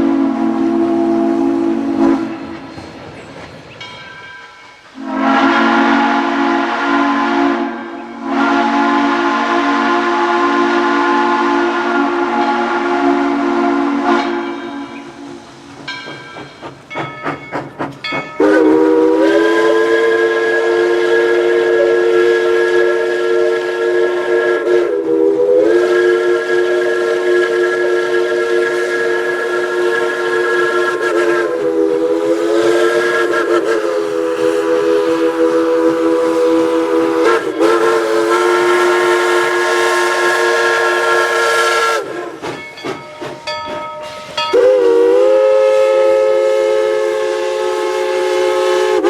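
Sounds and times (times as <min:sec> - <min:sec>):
steam locomotive whistle: 0:00.0 - 0:02.8, 0:04.7 - 0:49.0.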